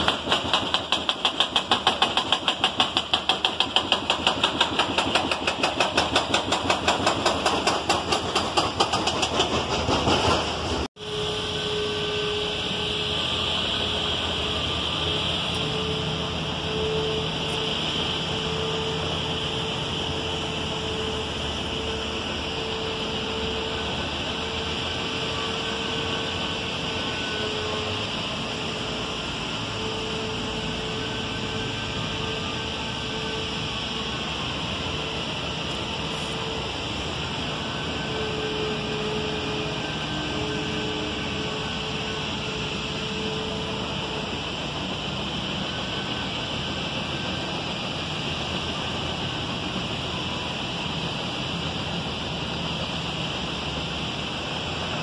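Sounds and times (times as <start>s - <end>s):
heavy machinery drone: 0.0s - 55.0s
machinery whine: 0.0s - 55.0s.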